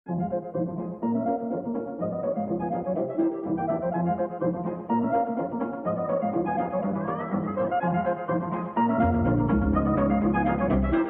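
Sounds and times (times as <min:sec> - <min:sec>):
instrumental background music: 0:00.1 - 0:11.0.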